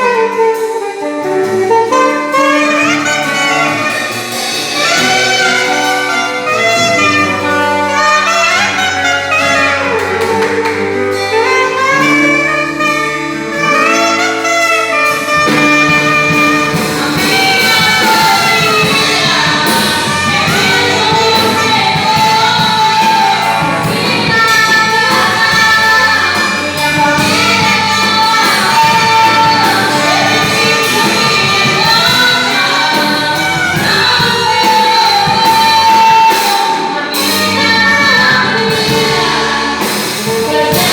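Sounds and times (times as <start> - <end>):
band playing music: 0.0 - 40.9
drums: 0.0 - 40.9
saxophone melody: 0.0 - 40.9.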